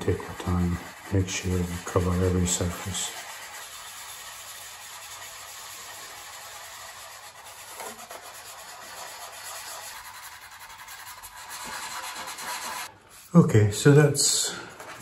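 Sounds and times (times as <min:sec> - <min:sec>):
sandpaper rubbing plastic: 0:00.0 - 0:13.3.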